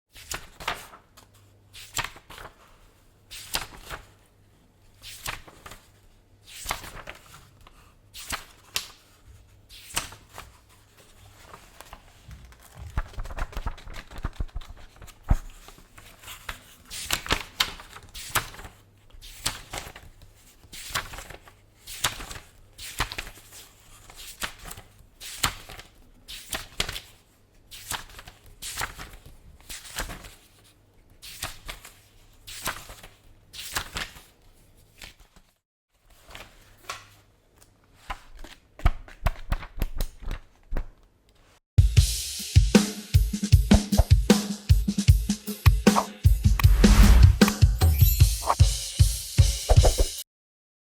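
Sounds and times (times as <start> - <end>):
book pages turning: 0.1 - 41.6
paper rustling: 0.1 - 41.6.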